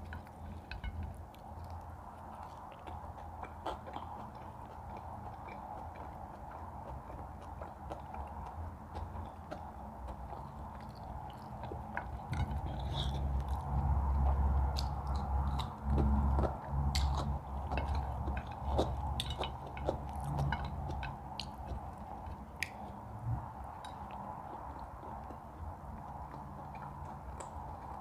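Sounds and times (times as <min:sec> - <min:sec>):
chewing and biting food: 0:00.0 - 0:28.0.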